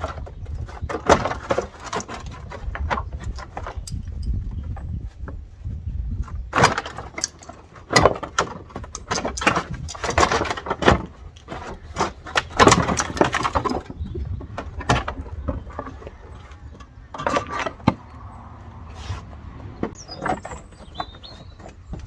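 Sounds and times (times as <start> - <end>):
plastic liner scraping and rustling: 0.0 - 22.0.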